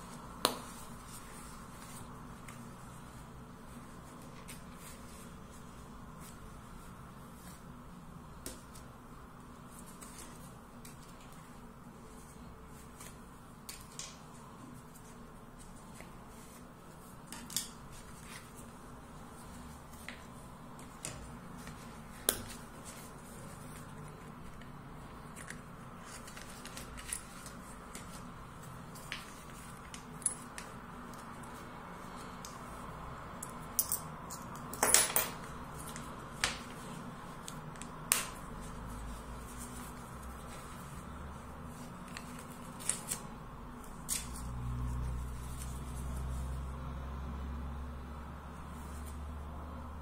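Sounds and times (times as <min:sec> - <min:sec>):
leather wallet rustling: 0:00.0 - 0:08.9, 0:09.6 - 0:32.8, 0:35.5 - 0:46.6
faint steady hum: 0:00.0 - 0:50.0.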